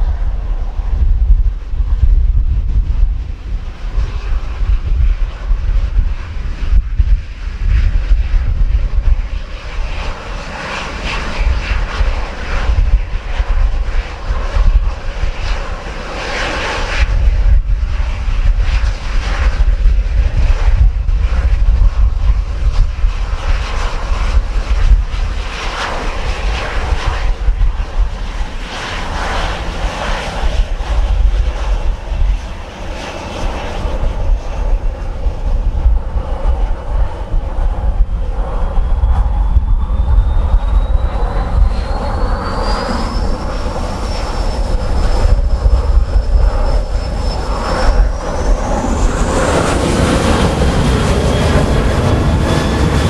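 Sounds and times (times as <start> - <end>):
airliner engines roaring: 0.0 - 53.0
wind buffeting microphone: 0.0 - 53.0.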